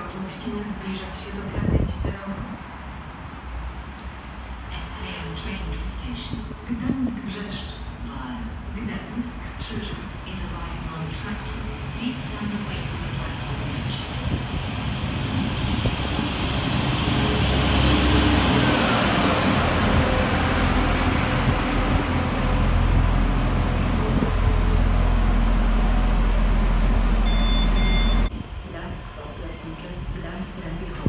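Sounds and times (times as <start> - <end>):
train engine hum: 0.0 - 31.0
train wheel noise: 5.8 - 31.0.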